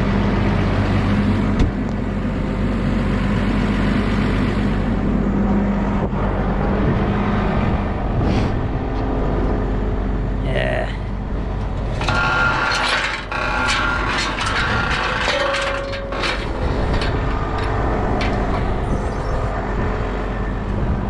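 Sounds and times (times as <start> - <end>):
farm vehicle engine running: 0.0 - 21.0.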